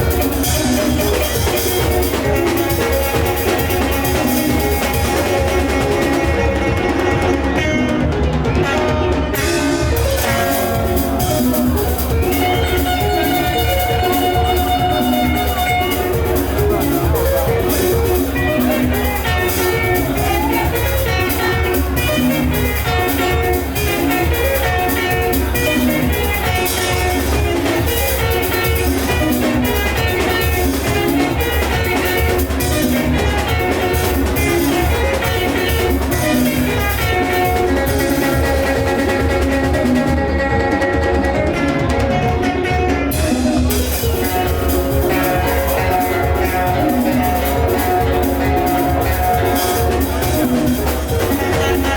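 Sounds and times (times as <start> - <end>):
live band music: 0.0 - 51.9.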